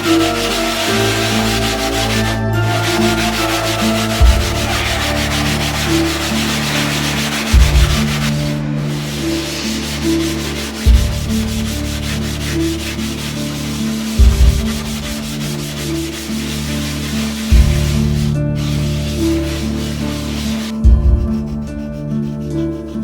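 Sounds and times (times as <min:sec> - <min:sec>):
background music with bass: 0:00.0 - 0:23.0.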